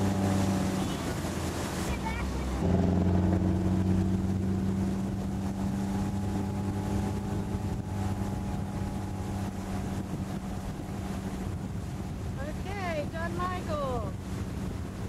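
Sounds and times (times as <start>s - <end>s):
motorboat engine running: 0.0s - 15.0s
wind noise on microphone: 0.0s - 15.0s.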